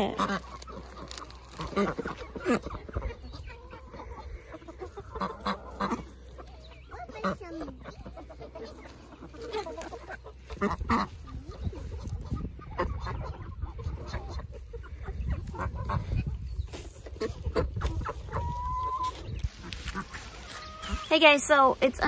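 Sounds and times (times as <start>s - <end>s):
chickens clucking: 0.0s - 22.0s
ducks: 0.0s - 22.0s.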